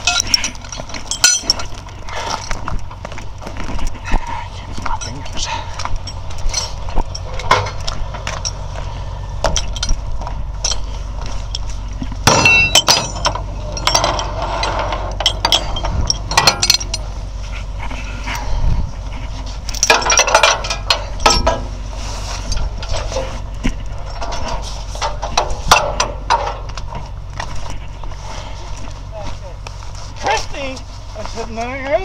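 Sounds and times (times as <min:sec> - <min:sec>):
chain clinking on metal deck: 0:00.0 - 0:27.9
low steady rumble: 0:00.0 - 0:32.0.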